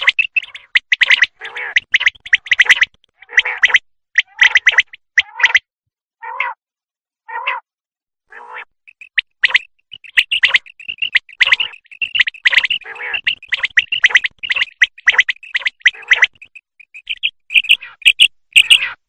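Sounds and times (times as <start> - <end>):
quail calling: 0.0 - 5.6, 6.2 - 6.6, 7.3 - 7.6, 8.3 - 19.0.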